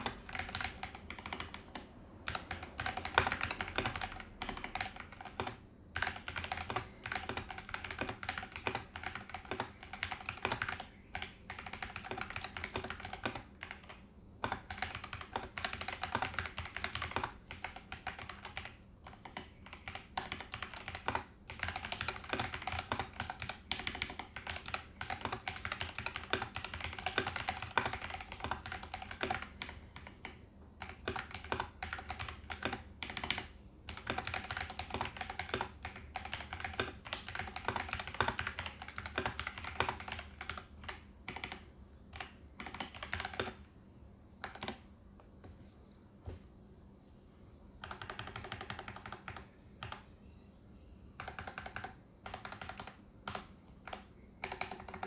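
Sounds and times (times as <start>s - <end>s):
typing on mechanical keyboard: 0.0s - 43.6s, 44.4s - 44.9s, 47.8s - 50.1s, 51.2s - 55.0s.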